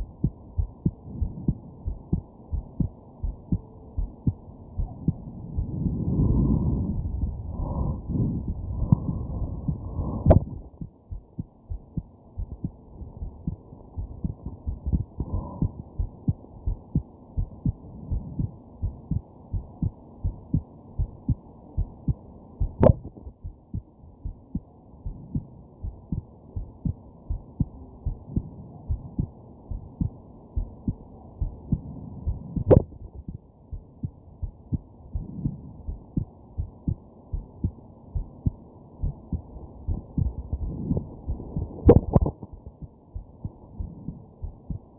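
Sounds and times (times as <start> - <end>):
heartbeat thumping: 0.0 - 44.9.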